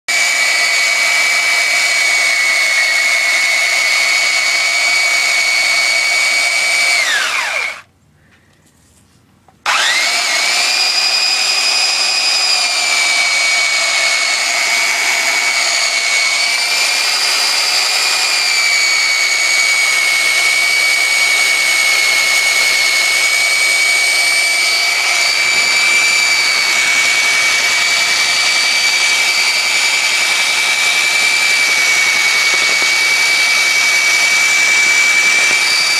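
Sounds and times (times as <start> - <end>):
steel grinding on sander belt: 0.1 - 7.8, 9.7 - 35.9
belt sander whining: 0.1 - 7.9, 9.6 - 35.9.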